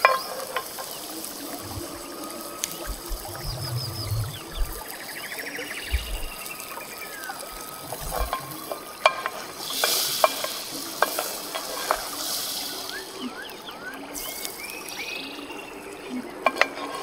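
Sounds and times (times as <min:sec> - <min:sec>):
butter sizzling in oil: 0:00.0 - 0:17.0.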